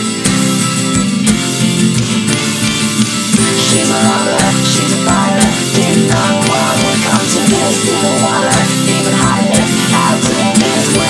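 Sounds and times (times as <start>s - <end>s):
guitar over a steady beat: 0.0s - 11.0s.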